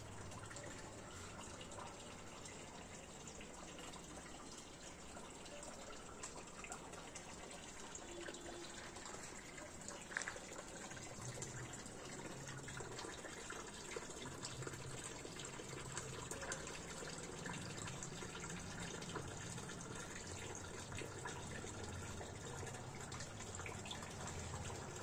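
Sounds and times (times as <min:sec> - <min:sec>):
trickle of running water: 0:00.0 - 0:25.0.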